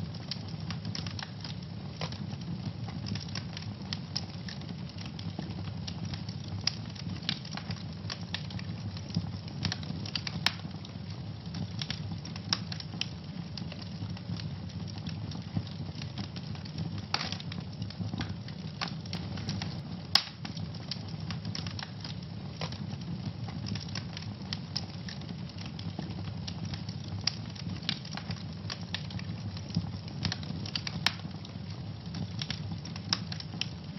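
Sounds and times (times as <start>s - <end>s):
fire crackling and popping: 0.0s - 33.9s
fire flames rumbling: 0.0s - 33.9s.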